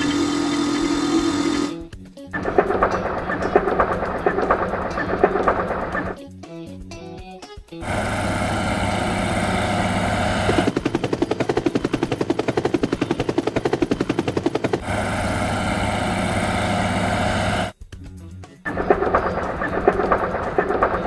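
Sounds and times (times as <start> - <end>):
helicopter engine drone: 0.0 - 6.2, 7.8 - 17.8, 18.7 - 21.0
helicopter rotor chop: 0.0 - 6.2, 7.8 - 17.8, 18.7 - 21.0.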